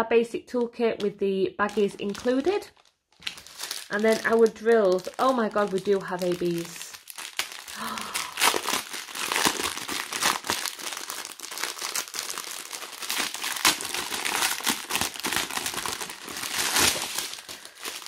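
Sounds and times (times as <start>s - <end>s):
plastic packaging crinkling: 1.6s - 18.0s.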